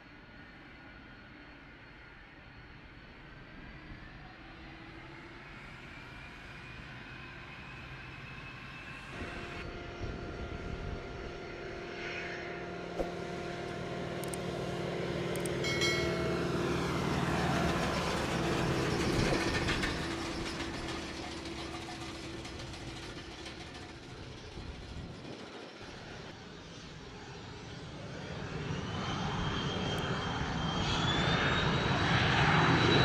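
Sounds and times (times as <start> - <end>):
jet engines whining: 2.7 - 33.0.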